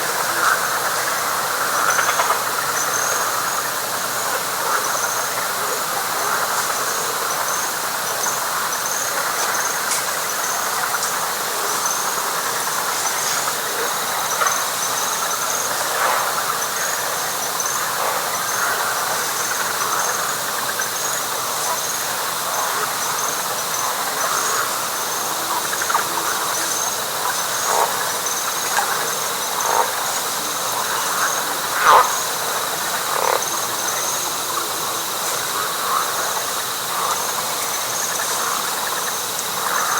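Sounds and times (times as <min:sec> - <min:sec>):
frogs calling: 0:00.0 - 0:39.9
high insect trill: 0:00.0 - 0:39.9.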